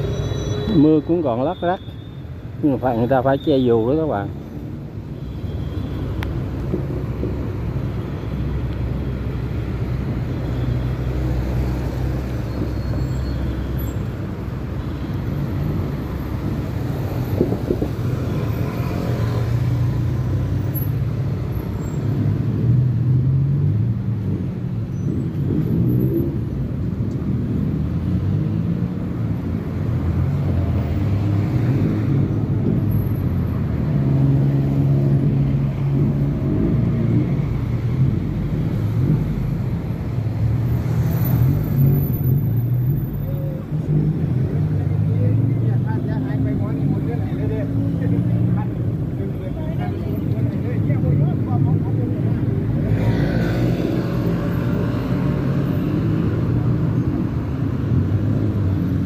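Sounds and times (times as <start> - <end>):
cars passing: 0.0 - 59.0.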